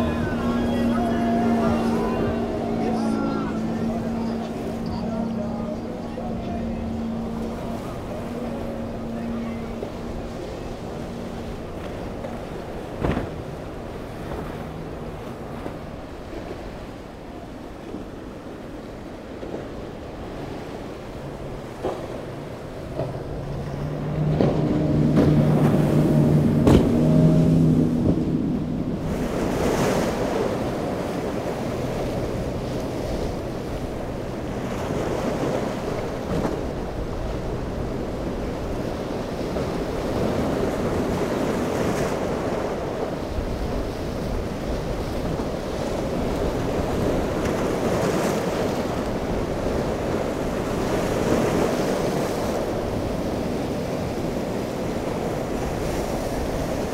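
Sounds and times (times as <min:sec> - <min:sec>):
outboard engines droning: 0:00.0 - 0:56.9
surf: 0:00.0 - 0:56.9.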